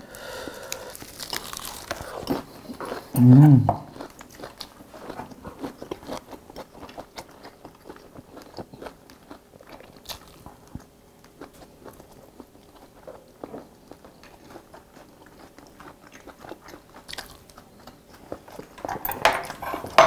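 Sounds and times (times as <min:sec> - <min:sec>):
person chewing food: 0:00.1 - 0:20.0.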